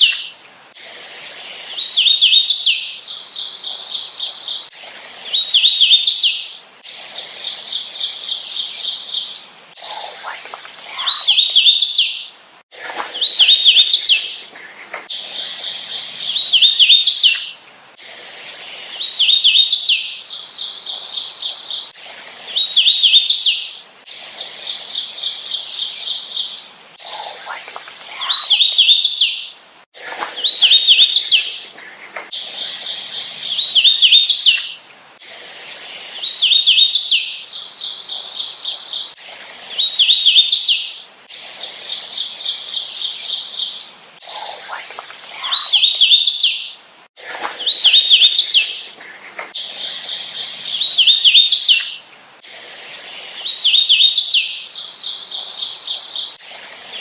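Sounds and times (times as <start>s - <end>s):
warbler singing whistled notes: 0.0s - 0.4s, 1.4s - 4.7s, 5.3s - 14.5s, 15.1s - 17.6s, 18.8s - 23.8s, 24.4s - 29.6s, 30.3s - 34.9s, 35.7s - 41.1s, 41.7s - 46.8s, 47.6s - 49.0s, 49.6s - 52.1s, 53.0s - 57.0s.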